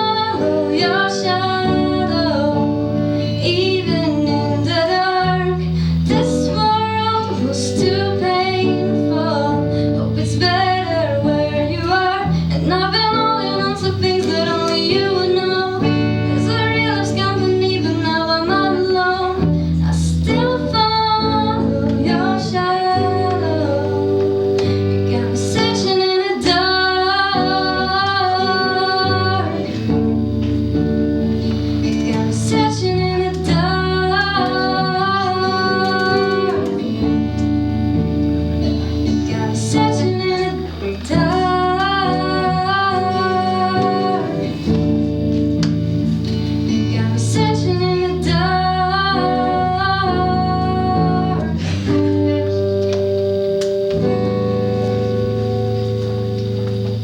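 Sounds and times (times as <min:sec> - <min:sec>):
woman singing: 0:00.0 - 0:53.4
guitar accompaniment: 0:00.0 - 0:57.0.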